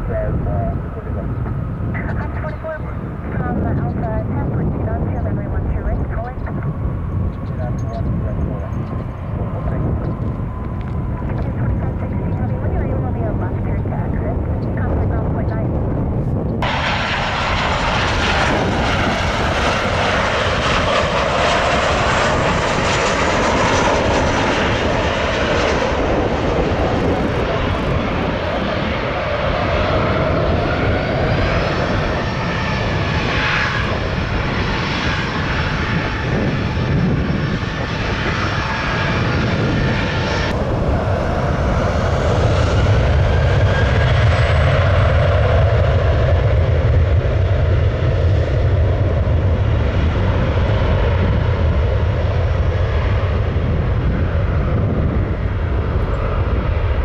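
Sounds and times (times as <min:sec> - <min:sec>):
jet airliner landing: 0:00.0 - 0:57.0
jet taxiing rumble: 0:00.0 - 0:57.0.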